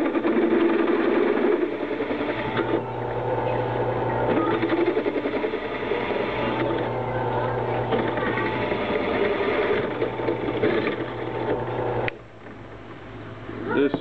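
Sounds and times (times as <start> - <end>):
drill press motor hum: 0.0 - 13.0.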